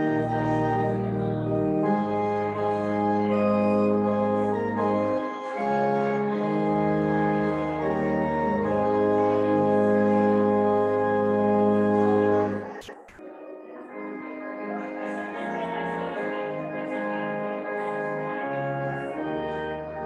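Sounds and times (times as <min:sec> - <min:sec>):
organ playing sustained chords: 0:00.0 - 0:20.0.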